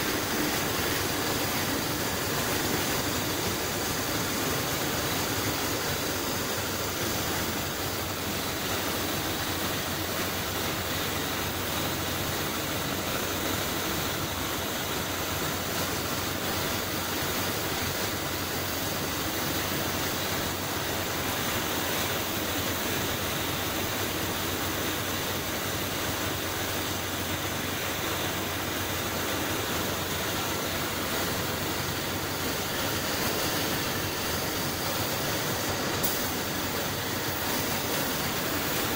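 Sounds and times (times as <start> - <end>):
spray gun air hiss: 0.0 - 38.9
ventilation hum: 0.0 - 38.9.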